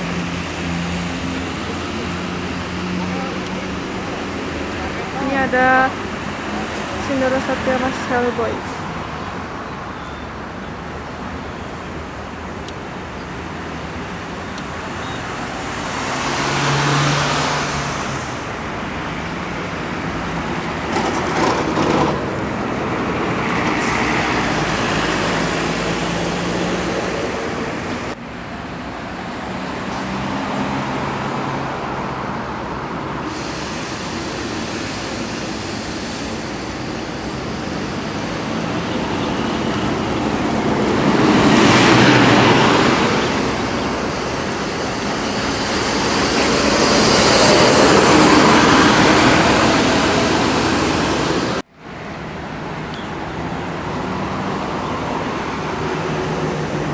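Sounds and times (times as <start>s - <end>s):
vehicles driving past: 0.0s - 56.9s.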